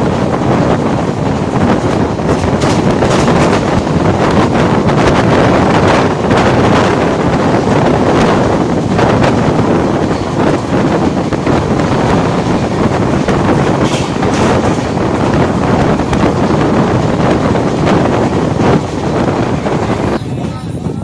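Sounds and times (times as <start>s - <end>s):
train wheel and rail noise: 0.0s - 21.0s
wind rushing: 0.0s - 21.0s.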